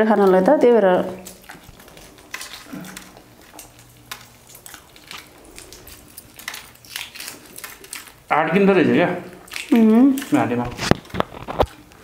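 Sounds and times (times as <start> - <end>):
egg shell crackling as peeled: 0.0 - 12.0.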